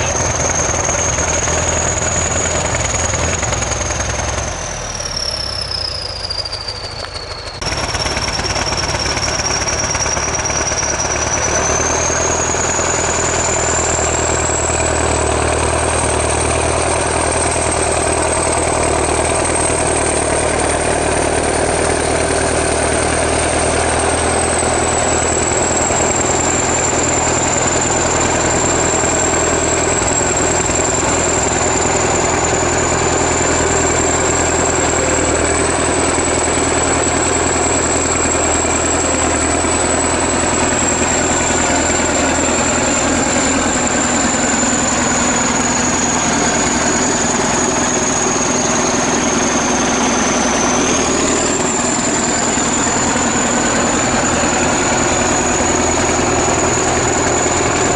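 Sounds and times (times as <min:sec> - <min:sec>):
bulldozer diesel engine idling: 0:00.0 - 0:57.9.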